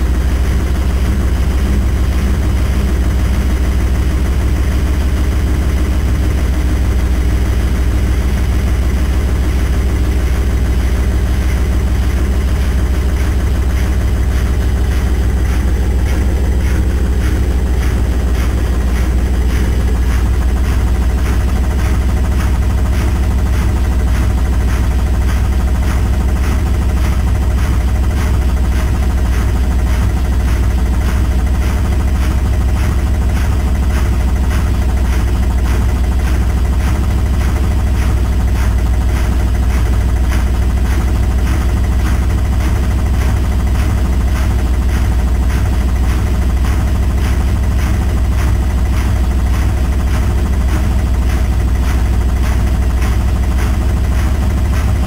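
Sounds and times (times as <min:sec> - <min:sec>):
washing machine drum spinning: 0:00.0 - 0:55.0.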